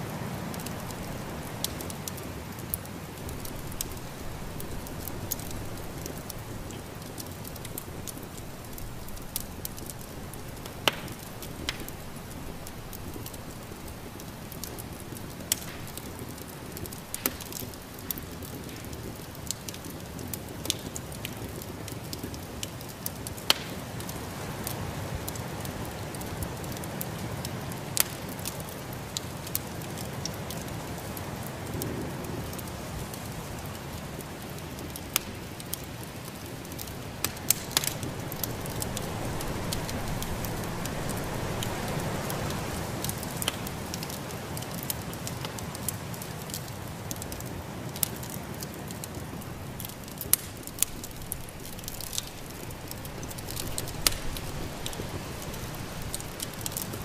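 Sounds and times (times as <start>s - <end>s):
fire popping and snapping: 0.0s - 57.0s
low rushing of fire: 0.0s - 57.0s
wood fire crackling: 0.0s - 57.0s.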